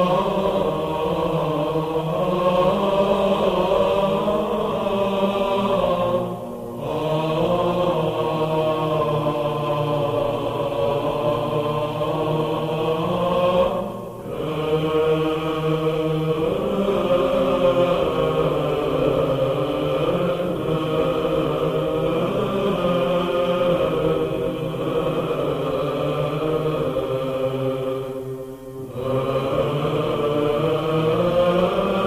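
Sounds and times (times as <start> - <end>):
voices chanting sustained notes: 0.0 - 32.0.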